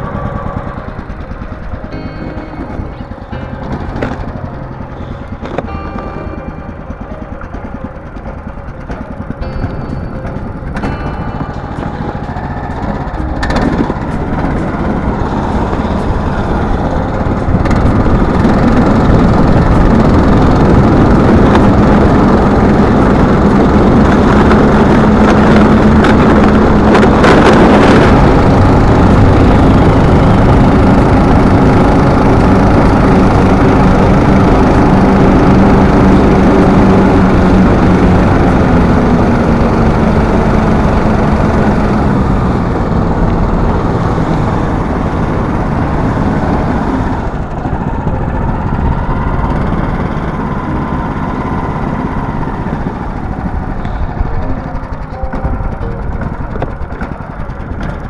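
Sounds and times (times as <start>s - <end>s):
outboard motor running: 0.0s - 58.0s
rush of wind and water: 11.2s - 58.0s.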